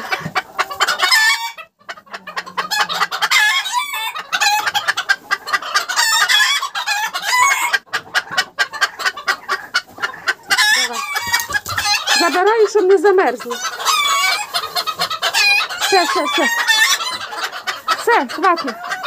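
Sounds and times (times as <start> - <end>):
chickens clucking and calling: 0.0 - 19.0.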